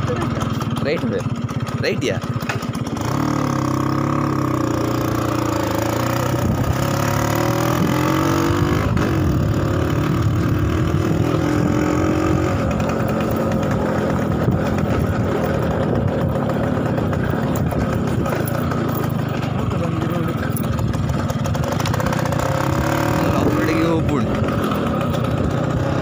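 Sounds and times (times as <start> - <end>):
moped engine running: 0.0 - 26.0.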